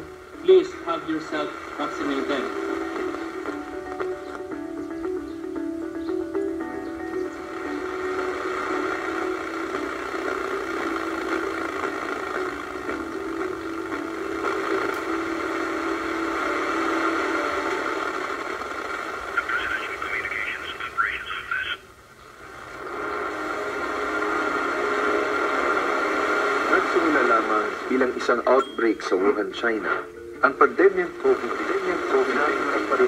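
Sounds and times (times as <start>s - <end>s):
narration: 0.0s - 5.2s, 7.4s - 22.0s, 24.0s - 33.0s
droning background with hiss: 0.0s - 33.0s.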